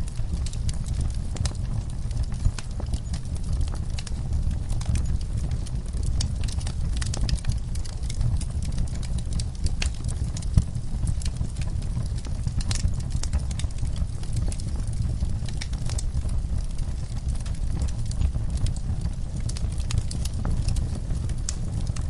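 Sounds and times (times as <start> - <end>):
fireplace crackling and popping: 0.0 - 22.0.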